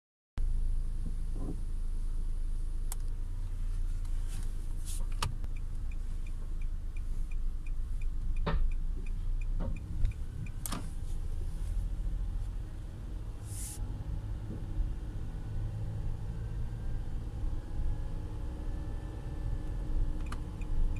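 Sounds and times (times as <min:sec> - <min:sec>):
car drivetrain and road rumble: 0:00.4 - 0:20.9.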